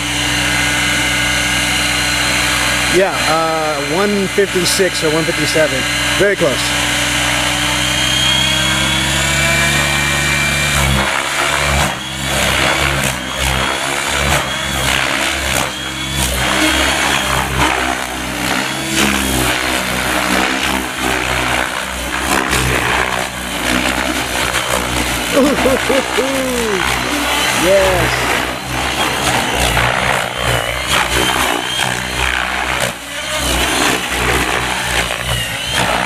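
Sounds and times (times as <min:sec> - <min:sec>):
model helicopter motor whine: 0:00.0 - 0:36.0.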